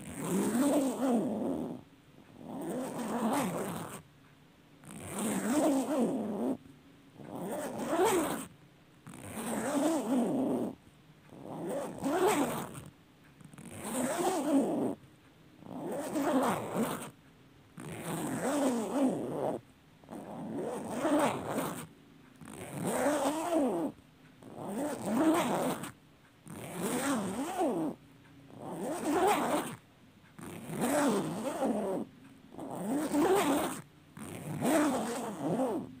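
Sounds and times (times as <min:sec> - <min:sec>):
zipper pulled open and shut: 0:00.0 - 0:04.0, 0:04.8 - 0:06.6, 0:07.2 - 0:15.0, 0:15.6 - 0:17.2, 0:17.8 - 0:36.0.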